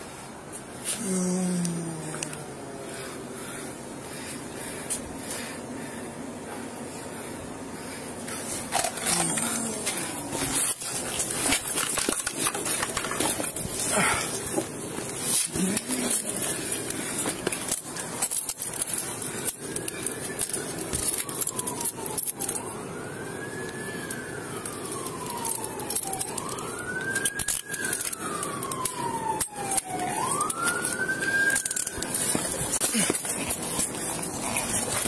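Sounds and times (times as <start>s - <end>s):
emergency siren wailing: 6.2s - 35.0s.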